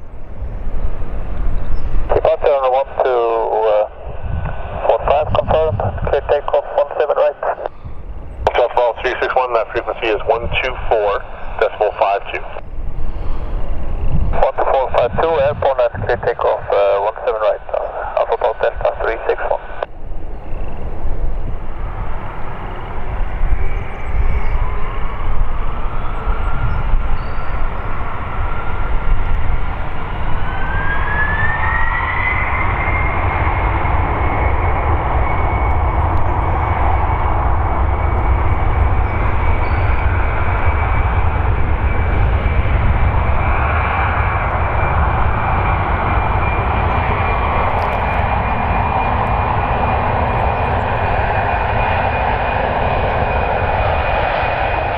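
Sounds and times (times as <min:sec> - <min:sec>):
deep engine rumble: 0:00.0 - 0:54.9
jet engines whining: 0:00.0 - 0:54.9.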